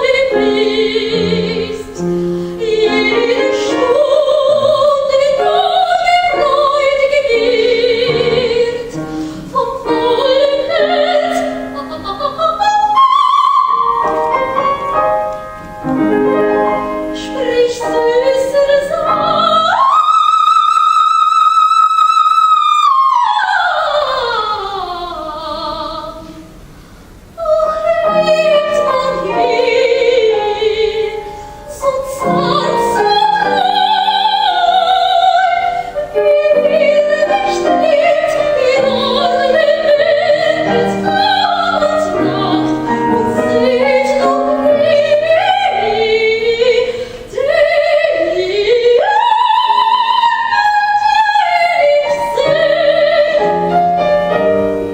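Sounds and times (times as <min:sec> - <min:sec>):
soprano singing opera: 0:00.0 - 0:14.9, 0:15.8 - 0:26.5, 0:27.3 - 0:54.8
musical accompaniment: 0:00.0 - 0:20.8, 0:25.0 - 0:54.9.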